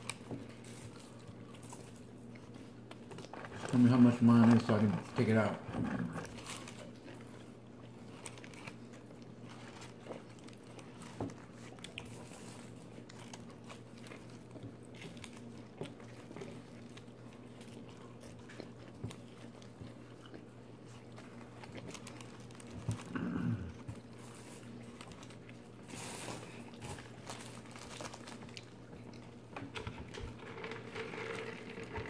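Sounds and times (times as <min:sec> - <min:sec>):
chewing and biting food: 0:00.0 - 0:32.0
food crunches: 0:06.0 - 0:32.0.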